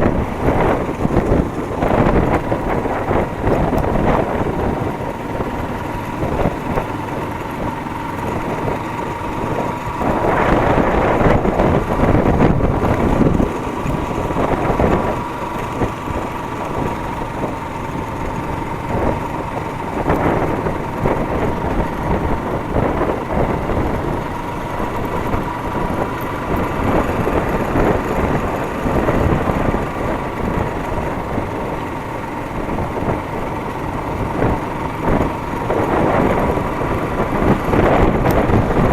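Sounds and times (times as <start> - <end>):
motorcycle running: 0.0 - 38.9
wind buffeting microphone: 0.0 - 38.9.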